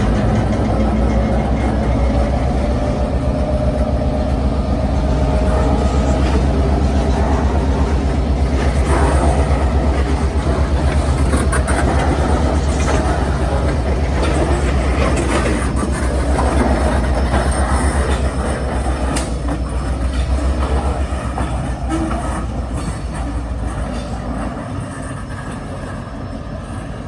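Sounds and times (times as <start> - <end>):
locomotive diesel engine rumble: 0.0 - 27.0
wheels clicking over rail joints: 0.0 - 27.0.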